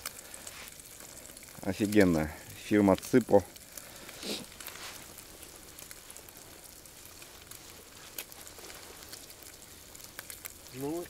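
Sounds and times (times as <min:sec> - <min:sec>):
pot sizzling on camp stove: 0:00.0 - 0:11.0.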